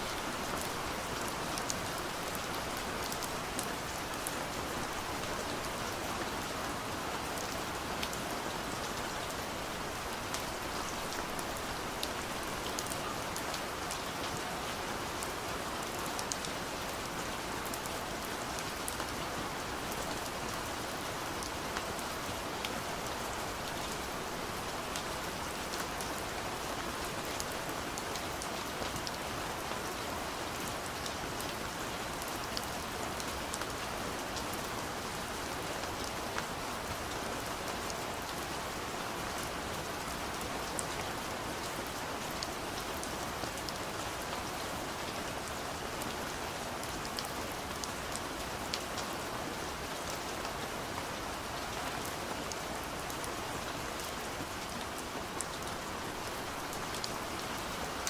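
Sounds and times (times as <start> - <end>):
soft rain on a window: 0.0 - 58.0.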